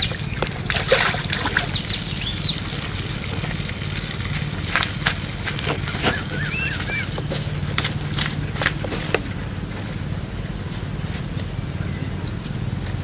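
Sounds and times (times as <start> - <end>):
bird chirping: 0.0 - 10.8, 11.7 - 13.0
feet splashing in water: 0.0 - 11.0
steady low hum: 0.0 - 13.0.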